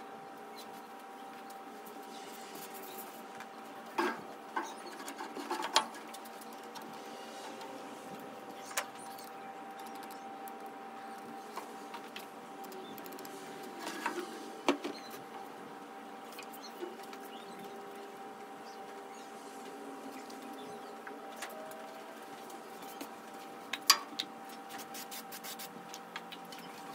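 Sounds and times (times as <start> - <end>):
faint steady hum: 0.0 - 26.9.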